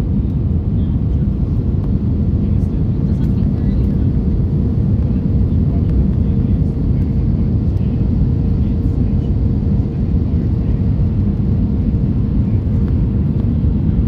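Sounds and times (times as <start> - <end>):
aircraft engine rumble in cabin: 0.0 - 14.0
constant hum: 0.0 - 14.0.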